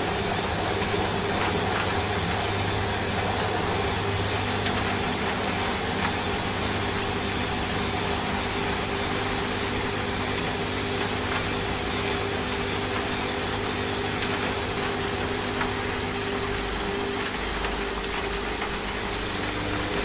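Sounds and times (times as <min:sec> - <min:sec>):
rain falling: 0:00.0 - 0:20.0
washing machine humming: 0:00.0 - 0:20.0.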